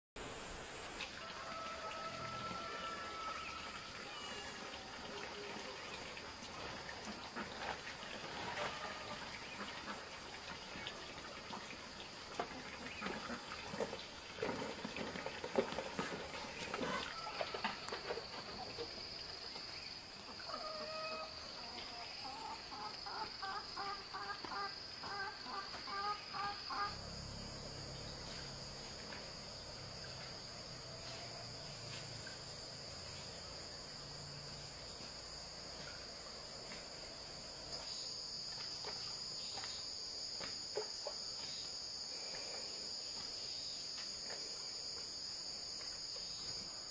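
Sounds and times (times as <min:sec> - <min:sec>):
insects buzzing: 0:00.2 - 0:46.9
pulsing insect song: 0:00.2 - 0:46.9.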